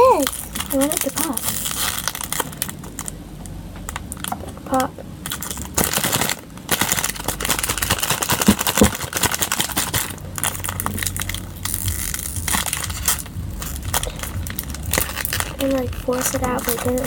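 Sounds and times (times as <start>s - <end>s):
crinkling handling noise: 0.0s - 17.0s.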